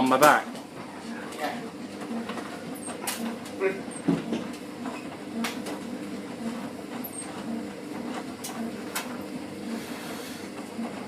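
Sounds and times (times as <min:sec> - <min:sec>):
pulsing laundry machine motor hum: 0:00.0 - 0:11.0.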